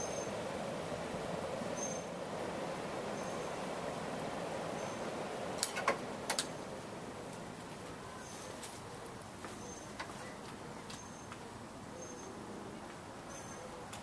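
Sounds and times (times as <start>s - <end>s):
ceiling fan whirring: 0.0s - 14.0s.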